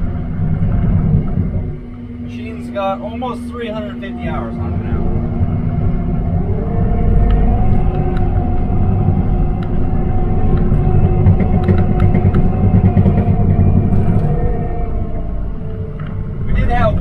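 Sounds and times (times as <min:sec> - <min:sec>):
diesel engine rumble: 0:00.0 - 0:17.0
hydraulic whine: 0:00.0 - 0:17.0.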